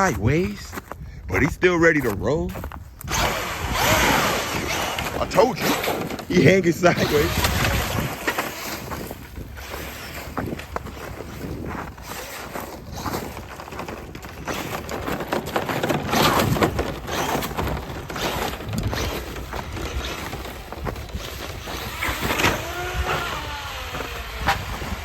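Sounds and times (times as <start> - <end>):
rc truck tyre and motor noise: 2.6 - 25.0.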